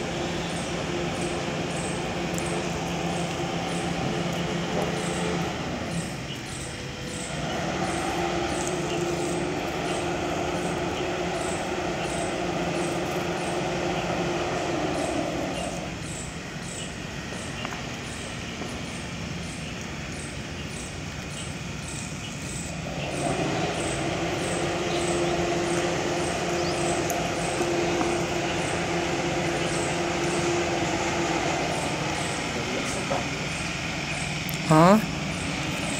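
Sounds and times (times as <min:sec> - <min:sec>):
faint high ticking: 0:00.0 - 0:35.9
machine hum with low drone: 0:00.0 - 0:35.9.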